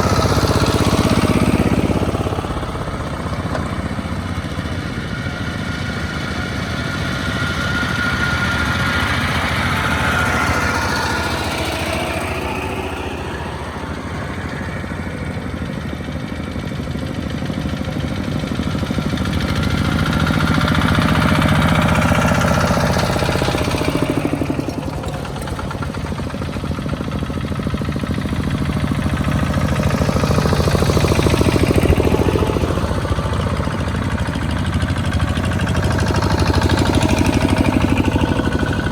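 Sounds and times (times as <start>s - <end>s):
diesel tractor engines chugging: 0.0s - 38.9s.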